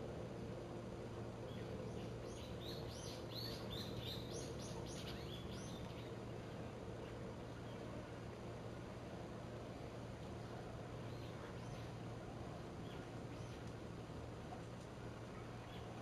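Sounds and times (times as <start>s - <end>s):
outdoor background noise: 0.0s - 16.0s
steady low hum: 0.0s - 16.0s.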